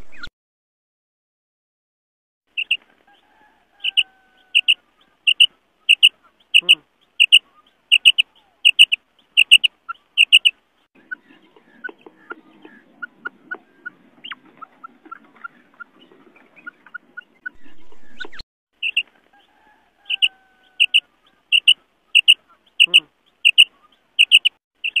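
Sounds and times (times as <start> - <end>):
quail calling: 2.6 - 25.0.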